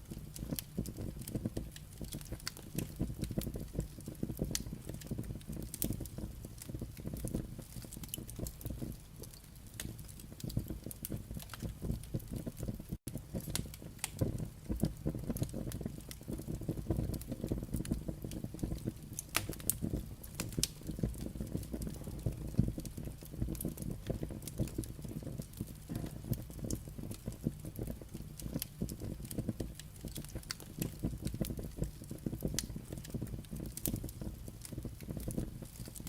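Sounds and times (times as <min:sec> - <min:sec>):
flames rumbling: 0:00.0 - 0:36.0.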